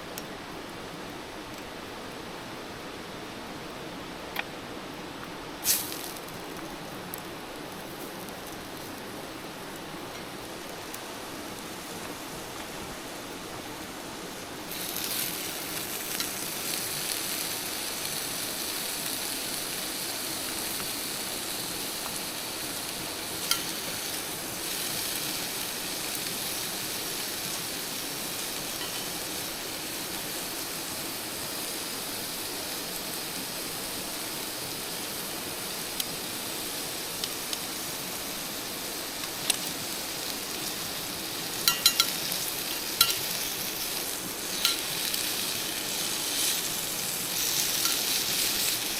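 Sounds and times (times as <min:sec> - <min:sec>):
food sizzling: 0:05.5 - 0:48.9.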